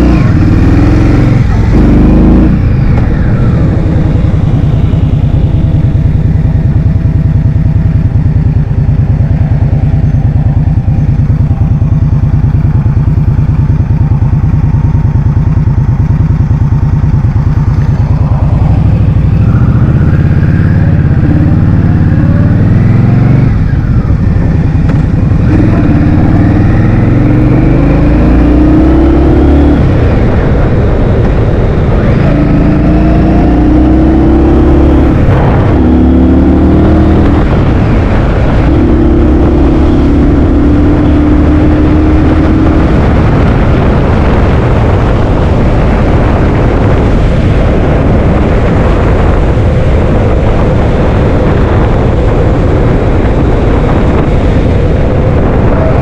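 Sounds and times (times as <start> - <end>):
wind buffeting microphone: 0.0 - 13.4, 14.5 - 56.0
motorbike engine shifting gears: 0.0 - 56.0.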